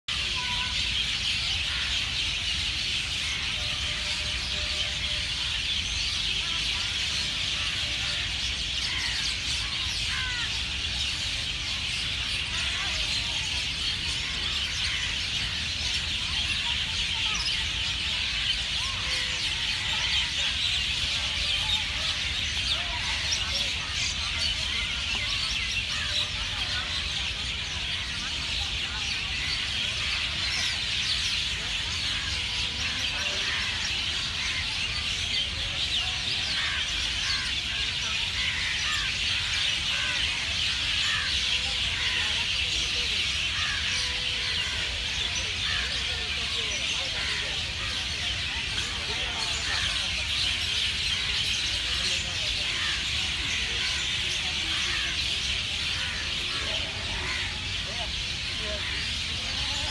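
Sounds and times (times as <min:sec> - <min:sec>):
many birds chirping: 0:00.0 - 0:59.9.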